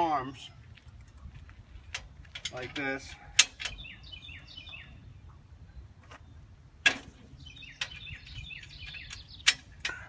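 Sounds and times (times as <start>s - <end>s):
birds chirping: 0.3s - 10.0s.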